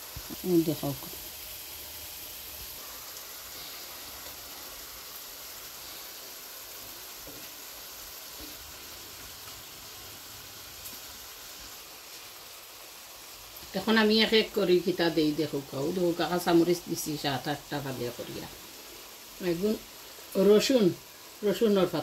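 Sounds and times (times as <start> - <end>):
curry sizzling in a pan: 0.0 - 22.0.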